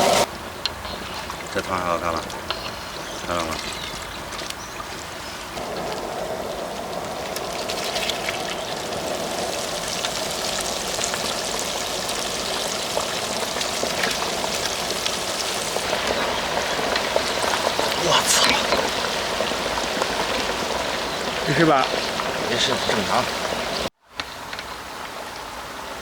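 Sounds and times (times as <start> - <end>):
food frying in hot oil: 0.0 - 23.9.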